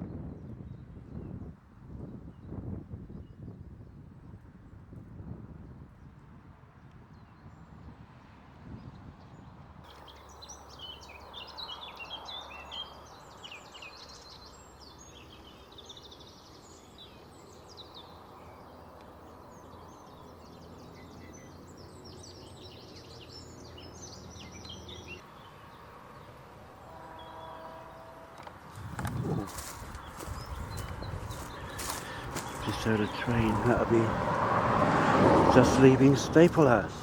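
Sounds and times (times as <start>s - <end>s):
small birds singing: 0.0s - 4.4s, 6.8s - 7.9s, 8.8s - 37.0s
wind: 0.0s - 37.0s.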